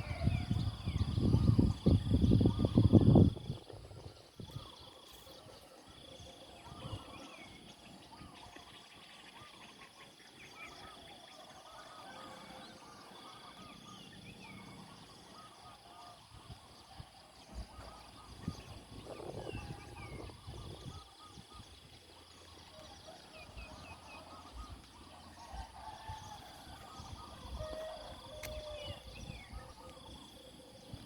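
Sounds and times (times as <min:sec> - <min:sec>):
faint bird calls and chirps: 0:00.0 - 0:31.0.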